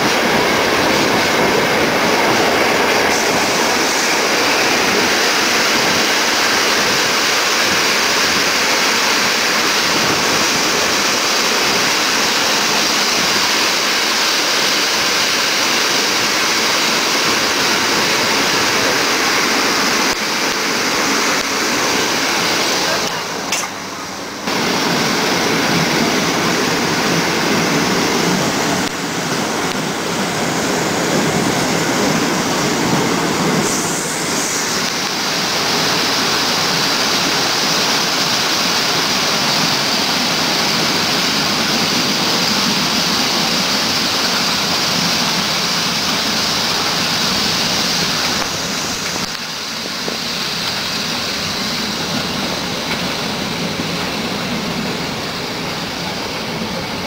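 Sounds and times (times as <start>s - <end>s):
high hiss: 0.0s - 57.0s
train wheels rumbling on rail: 0.0s - 57.0s.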